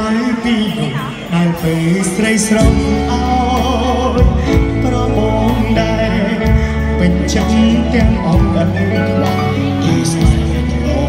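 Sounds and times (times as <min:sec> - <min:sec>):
keyboard pop music: 0:00.0 - 0:11.0
man singing into microphone: 0:00.0 - 0:11.0.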